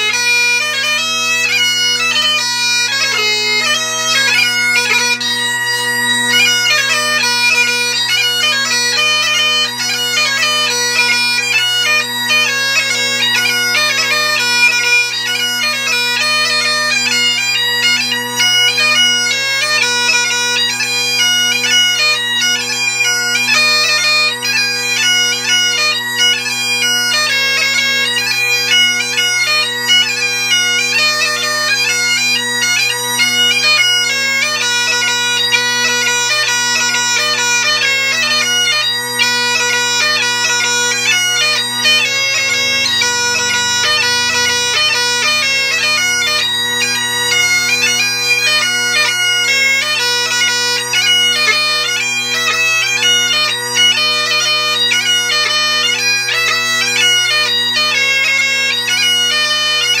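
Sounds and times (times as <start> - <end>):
bagpipe playing fast tune: 0.0 - 60.0.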